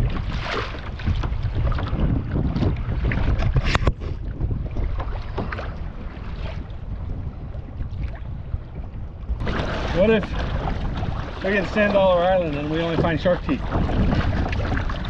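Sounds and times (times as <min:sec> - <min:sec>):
paddle splashing in water: 0:00.0 - 0:15.0
wind buffeting microphone: 0:00.0 - 0:15.0.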